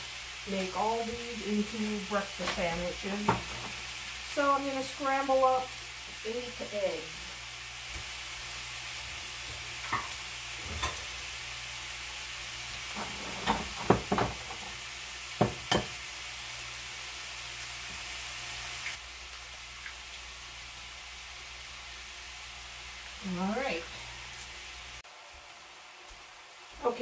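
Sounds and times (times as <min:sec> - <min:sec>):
sausage sizzling in a skillet: 0:00.0 - 0:27.0.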